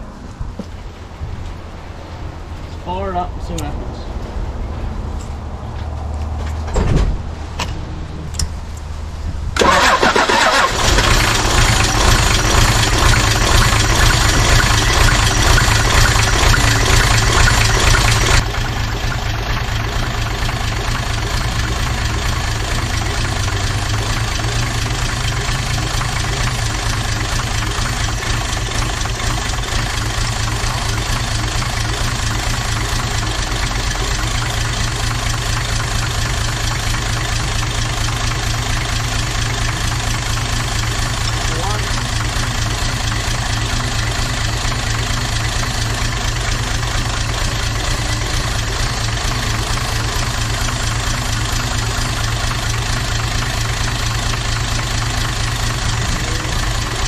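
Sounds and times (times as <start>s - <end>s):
diesel engine starting and idling: 0.0s - 57.0s.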